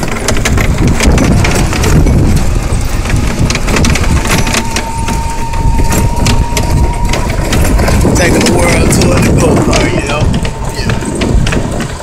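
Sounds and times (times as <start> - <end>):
cart rattling clicks: 0.0 - 12.0
wind and driving rumble: 0.0 - 12.0
thin steady whine: 1.1 - 12.0.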